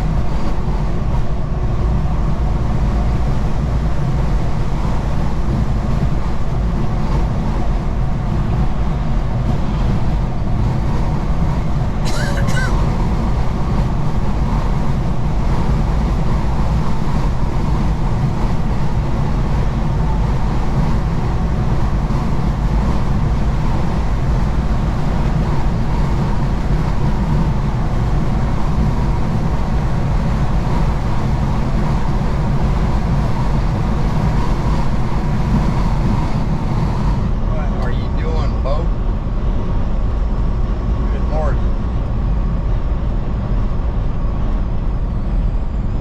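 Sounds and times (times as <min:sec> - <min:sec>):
road noise: 0:00.0 - 0:46.0
truck engine drone: 0:00.0 - 0:46.0.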